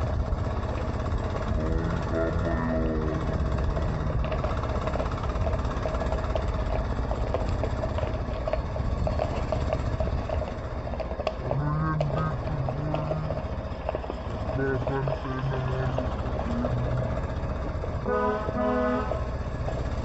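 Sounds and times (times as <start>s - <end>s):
road and wind rumble: 0.0s - 20.0s
vehicle engine running: 0.0s - 20.0s.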